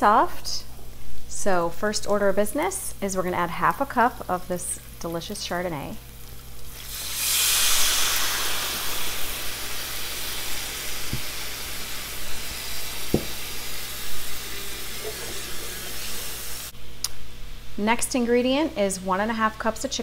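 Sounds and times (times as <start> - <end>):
wine sizzling in hot pan: 0.7 - 16.8.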